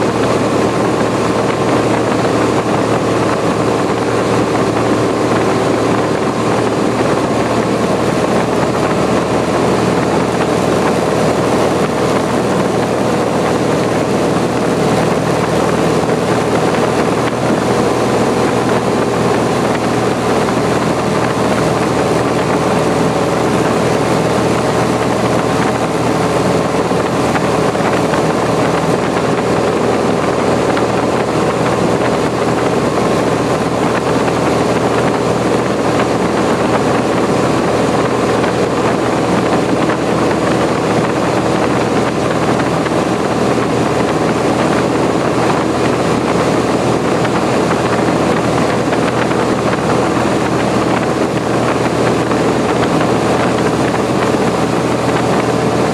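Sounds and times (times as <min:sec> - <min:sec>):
airplane engine and propeller: 0:00.0 - 0:55.9.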